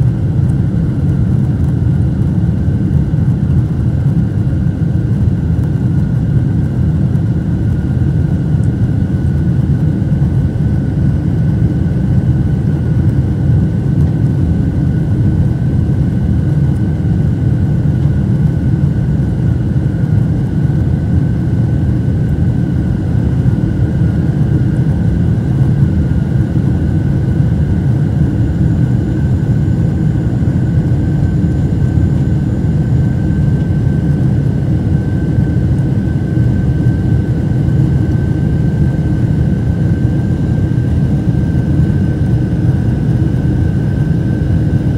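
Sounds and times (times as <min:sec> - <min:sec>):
jet engines deep rumble: 0:00.0 - 0:44.9.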